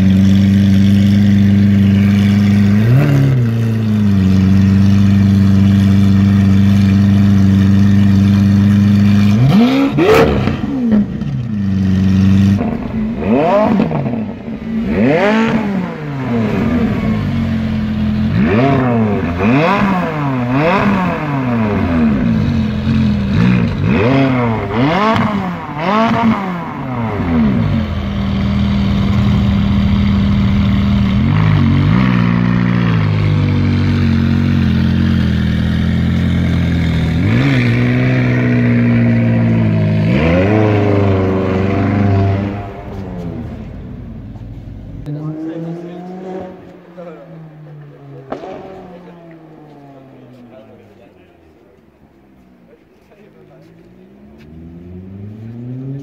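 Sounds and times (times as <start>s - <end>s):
car engine idling: 0.0s - 45.3s
car engine revving: 0.0s - 56.0s
exhaust crackles: 0.0s - 56.0s.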